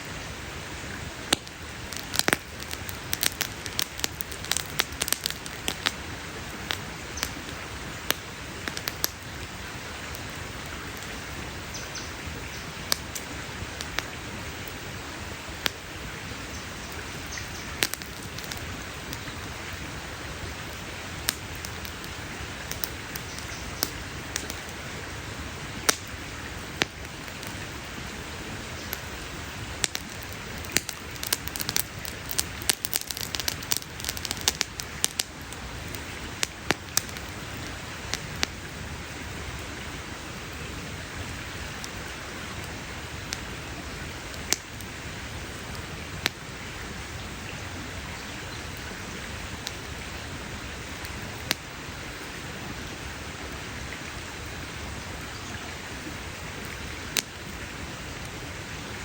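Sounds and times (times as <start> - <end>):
campfire crackling and popping: 0.0 - 52.4, 53.2 - 59.0.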